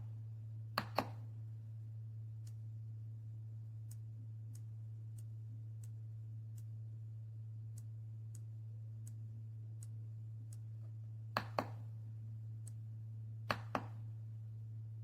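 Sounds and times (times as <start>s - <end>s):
low hum: 0.0s - 15.0s
faint regular ticks: 0.8s - 14.2s.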